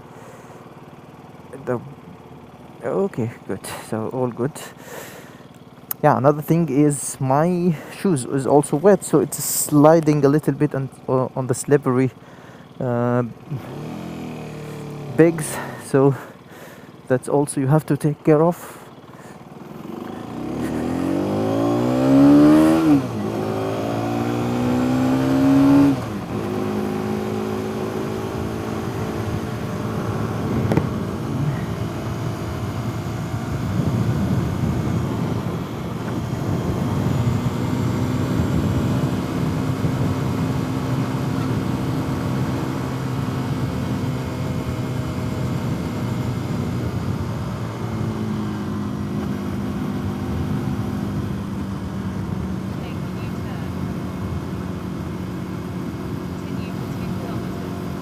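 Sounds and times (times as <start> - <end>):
motorcycle engine revving: 0.0 - 8.0, 11.9 - 17.1, 18.6 - 58.0.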